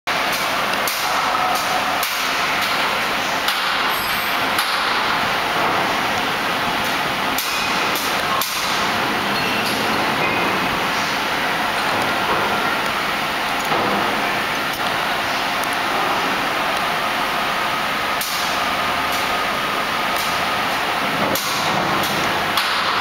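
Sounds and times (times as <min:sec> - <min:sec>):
machine whirring: 0:00.1 - 0:23.0.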